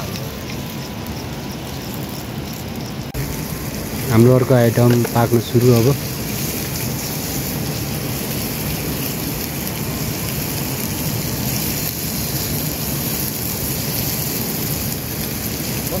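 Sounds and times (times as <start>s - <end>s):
chicken sizzling on hot stone: 0.0s - 16.0s.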